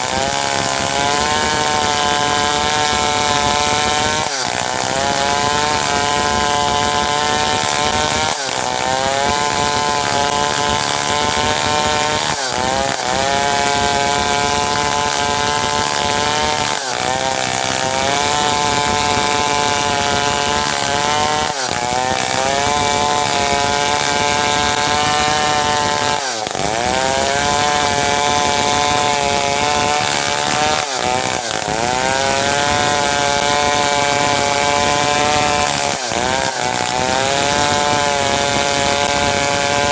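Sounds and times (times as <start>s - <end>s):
chainsaw cutting wood under load: 0.0s - 39.9s.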